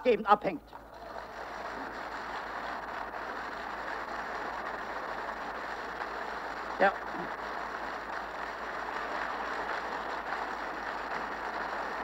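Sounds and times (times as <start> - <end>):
muffled applause on radio: 1.0 - 12.0.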